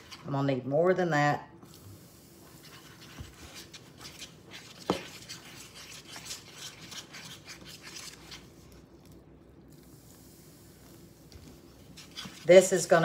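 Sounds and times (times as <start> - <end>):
utensil stirring batter in bowl: 0.0 - 0.4, 2.4 - 13.0.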